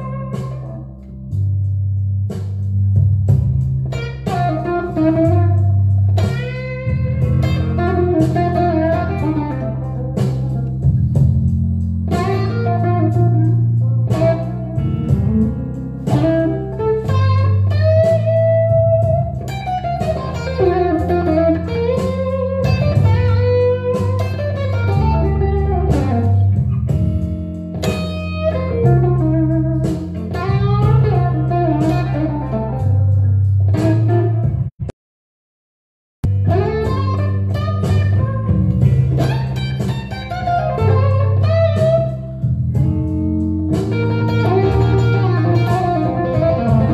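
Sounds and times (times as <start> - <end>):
electric guitar blues lead: 0.0 - 2.0, 2.6 - 34.7, 36.3 - 46.9
low bass notes: 0.0 - 34.9, 36.2 - 46.9.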